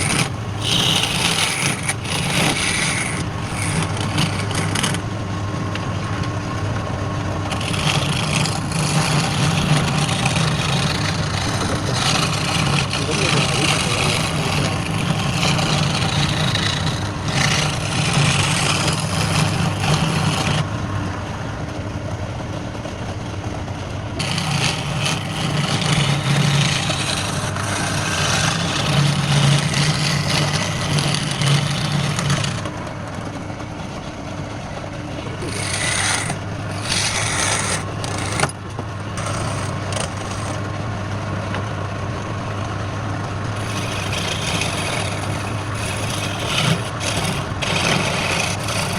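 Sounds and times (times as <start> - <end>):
tool scraping spinning wood: 0.0 - 20.7, 22.8 - 41.6, 43.5 - 48.9
wood lathe motor humming: 0.0 - 20.7, 23.0 - 40.7, 43.5 - 48.9.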